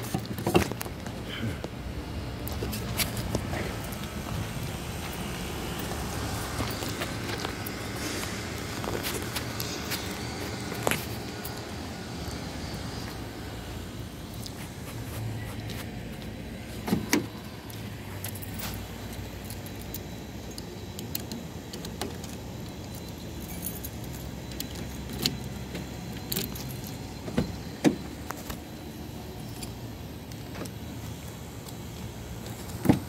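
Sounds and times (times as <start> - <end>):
car engine idling: 0.0 - 32.8.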